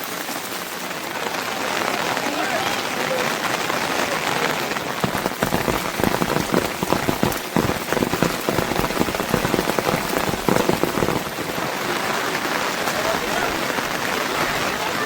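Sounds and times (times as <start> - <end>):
raindrops pattering on surface: 0.0 - 15.0
steady rain falling: 0.0 - 15.0.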